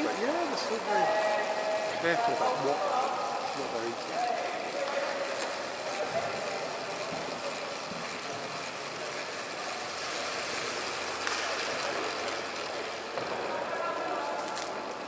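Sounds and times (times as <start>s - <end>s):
bike tyres whirring on rollers: 0.0s - 15.0s.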